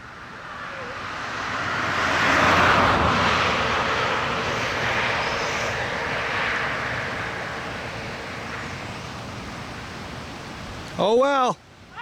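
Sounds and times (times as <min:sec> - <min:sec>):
passing vehicle: 0:00.0 - 0:11.1
river water rushing: 0:00.0 - 0:12.0.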